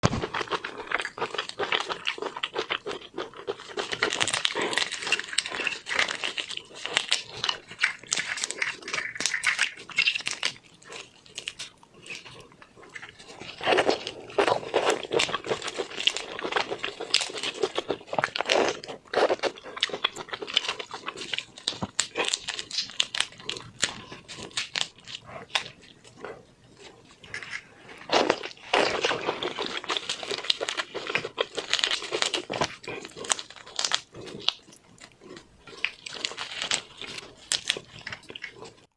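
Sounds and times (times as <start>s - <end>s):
crunching and chewing: 0.0s - 38.9s.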